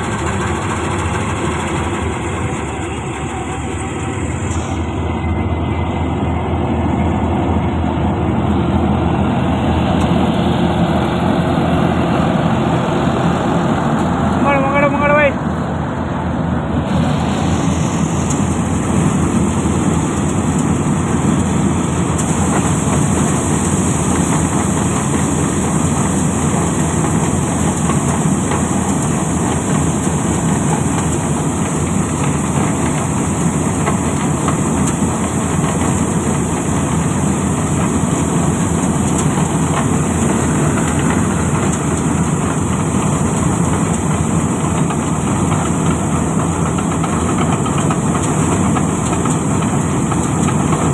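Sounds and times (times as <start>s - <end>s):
grain pouring from auger: 0.0s - 7.7s, 16.8s - 50.9s
combine harvester machinery din: 0.0s - 50.9s.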